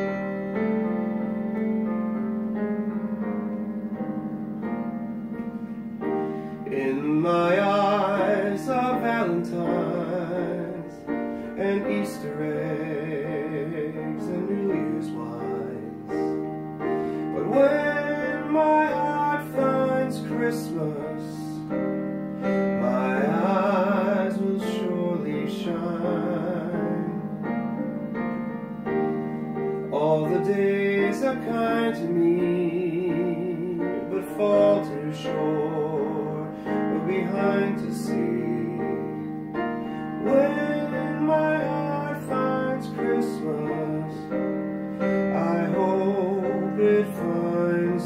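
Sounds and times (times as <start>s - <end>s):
digital piano playing slow song: 0.0s - 48.0s
man singing with vibrato: 6.1s - 27.6s, 29.1s - 48.0s.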